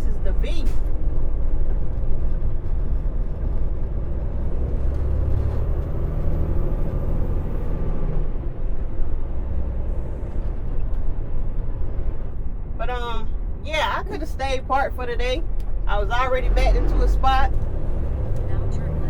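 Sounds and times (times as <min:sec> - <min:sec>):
truck diesel engine rumble: 0:00.0 - 0:19.0.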